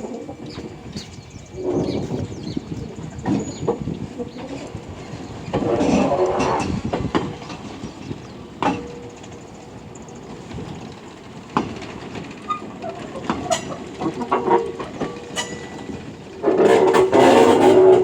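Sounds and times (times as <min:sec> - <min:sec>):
clanks from wheels and couplings: 0:00.0 - 0:18.0
railcar rolling rumble: 0:00.0 - 0:18.0.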